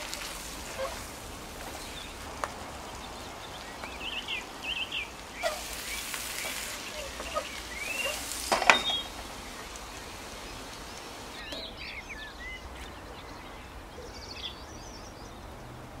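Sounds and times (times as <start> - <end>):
birds chirping: 0.0 - 16.0
steady background hiss: 0.0 - 16.0.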